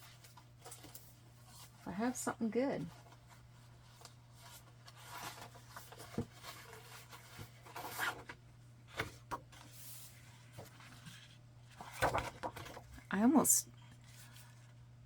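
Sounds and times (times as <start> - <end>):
paper rustling: 0.0 - 12.9
faint steady hum: 0.0 - 15.0.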